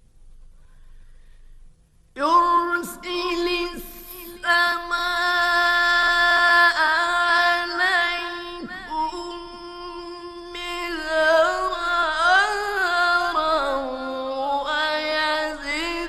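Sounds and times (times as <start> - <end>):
man reciting melodically: 2.2 - 16.0.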